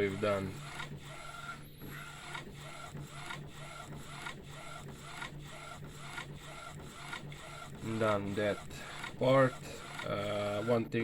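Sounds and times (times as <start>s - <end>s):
printer mechanism cycling: 0.0s - 11.0s.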